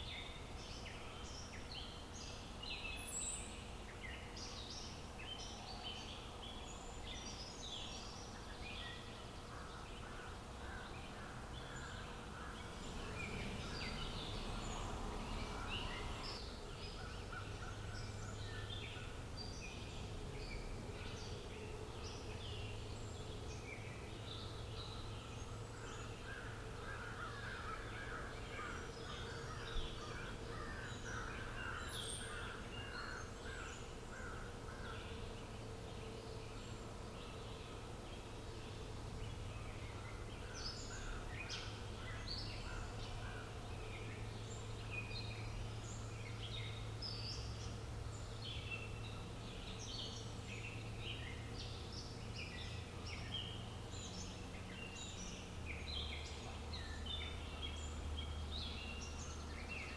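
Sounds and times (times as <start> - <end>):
low outdoor ambience hum: 0.0 - 59.9
small birds chirping: 0.0 - 59.9.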